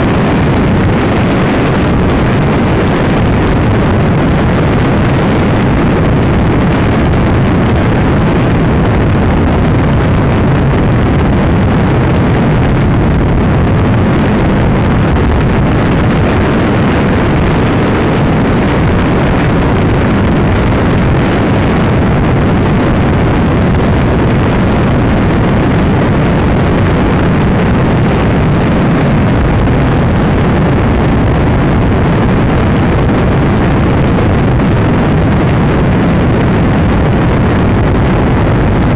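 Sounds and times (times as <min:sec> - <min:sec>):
wind rush over microphone: 0:00.0 - 0:38.9.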